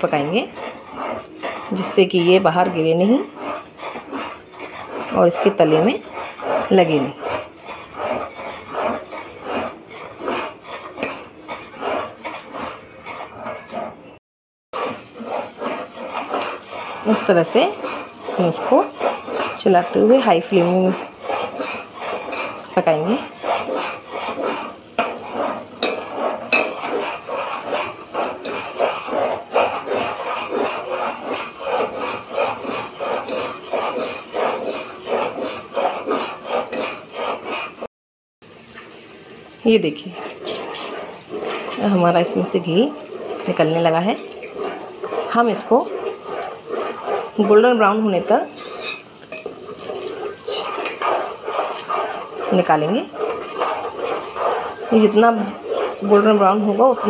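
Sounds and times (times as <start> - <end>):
spoon scraping metal pot: 0.0 - 37.9, 39.8 - 57.0
butter boiling: 0.0 - 57.0.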